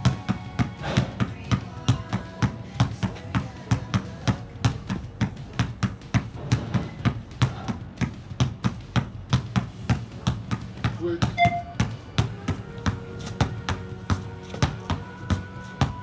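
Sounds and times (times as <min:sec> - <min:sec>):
basketball bouncing on concrete: 0:00.0 - 0:16.0
faint background music: 0:00.0 - 0:16.0.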